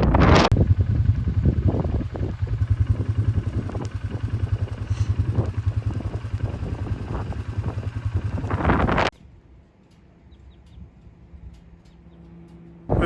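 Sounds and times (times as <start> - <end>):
atv engine chugging: 0.1 - 13.0.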